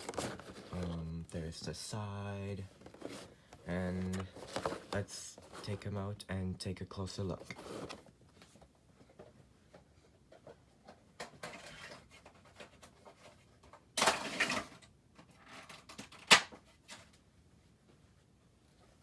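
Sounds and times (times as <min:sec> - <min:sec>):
cardboard and plastic rustling: 0:00.0 - 0:06.0, 0:07.0 - 0:17.2.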